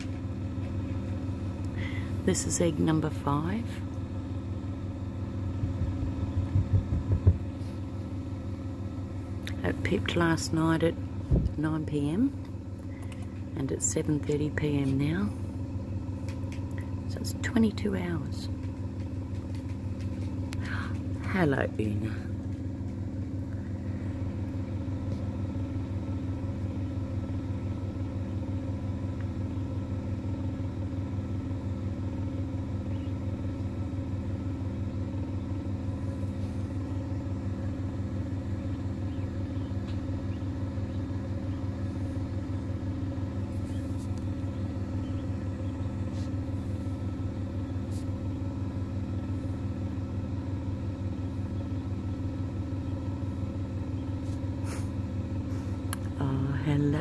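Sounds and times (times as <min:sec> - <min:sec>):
incubator fan humming: 0:00.0 - 0:57.0.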